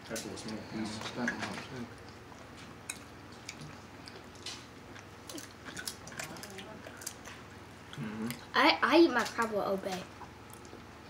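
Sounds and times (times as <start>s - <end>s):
quiet chewing: 0.1s - 8.5s, 10.1s - 10.9s.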